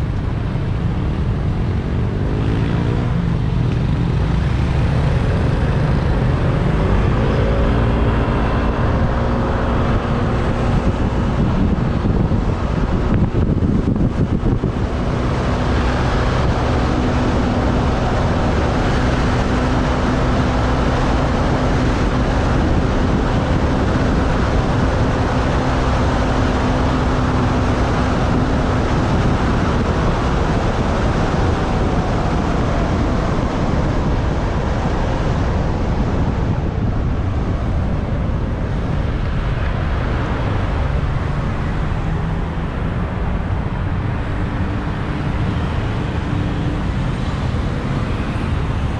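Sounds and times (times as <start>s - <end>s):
motorbike engine hum: 0.0s - 48.9s
road noise: 0.0s - 48.9s
wind rushing over microphone: 0.0s - 48.9s.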